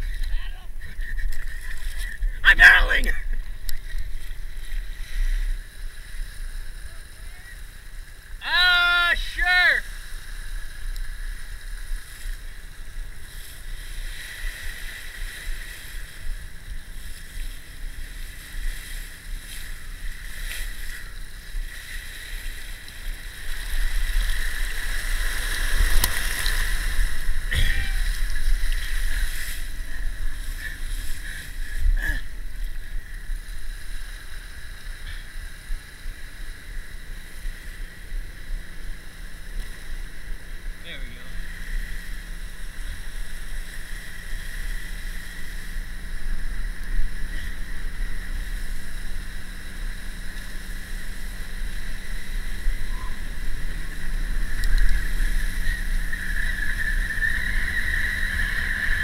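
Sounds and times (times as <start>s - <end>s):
water and wind rushing: 0.0s - 59.0s.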